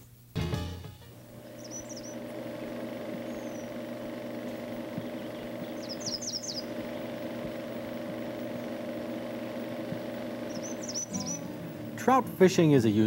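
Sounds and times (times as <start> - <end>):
steady low hum: 0.0 - 13.0
small songbird singing: 1.4 - 13.0.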